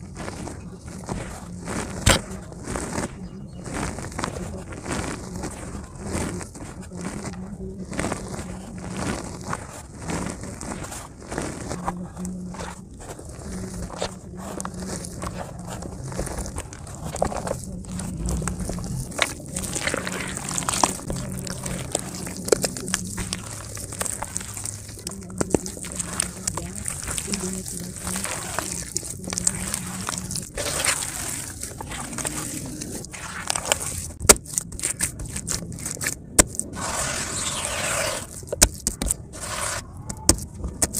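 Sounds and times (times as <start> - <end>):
crackles of crumbling earth: 0.0 - 40.9
hands squelching wet mud: 0.0 - 40.9.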